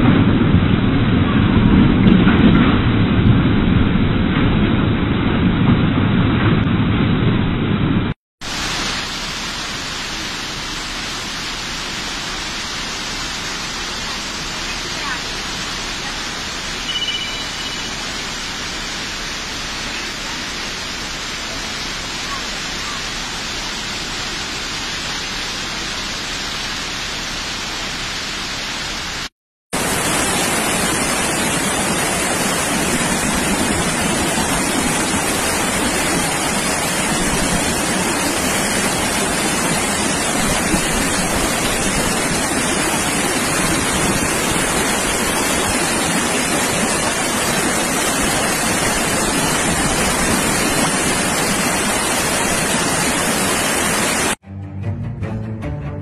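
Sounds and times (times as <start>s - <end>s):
floodwater rushing: 8.4s - 54.4s.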